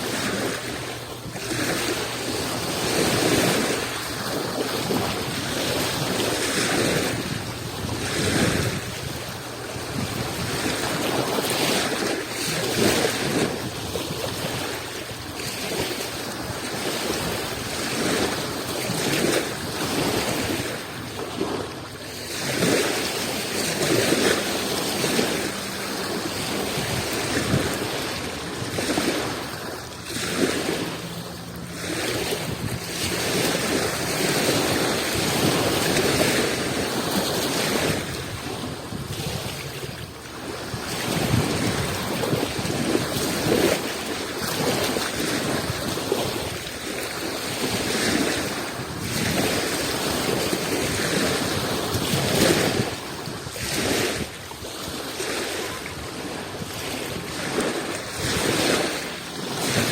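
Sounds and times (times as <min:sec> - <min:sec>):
sea waves washing onto shore: 0:00.0 - 0:59.9
wind buffeting microphone: 0:00.0 - 0:59.9.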